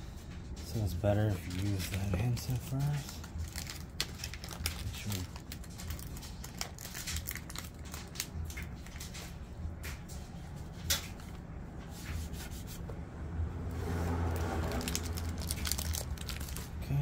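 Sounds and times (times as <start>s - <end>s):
hands handling plastic and tape: 0.6s - 12.9s, 14.2s - 16.8s.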